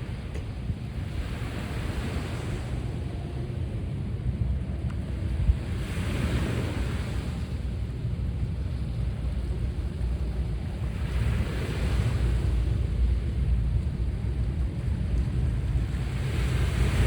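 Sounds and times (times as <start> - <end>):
sea waves breaking: 0.0 - 17.0
wind rumble on microphone: 0.0 - 17.0.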